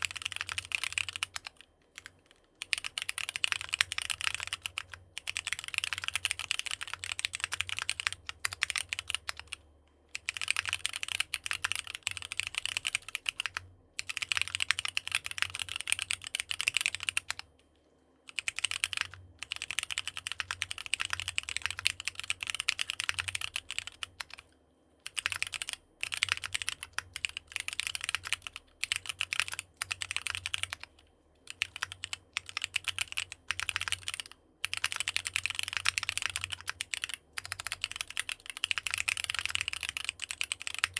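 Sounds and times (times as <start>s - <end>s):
mechanical keyboard typing: 0.0s - 17.5s, 18.3s - 40.9s.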